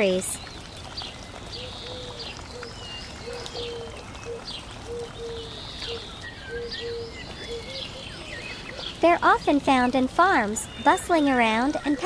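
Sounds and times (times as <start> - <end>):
birds chirping and whistling: 0.0 - 12.0.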